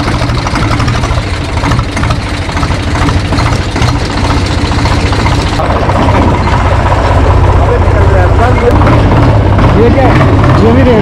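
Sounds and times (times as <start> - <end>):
diesel tractor engine throbbing: 0.0 - 11.0.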